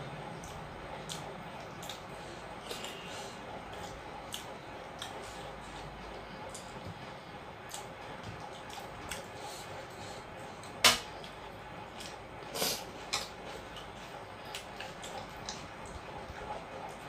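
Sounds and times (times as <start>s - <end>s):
faint clicks of eating by hand: 0.4s - 17.0s.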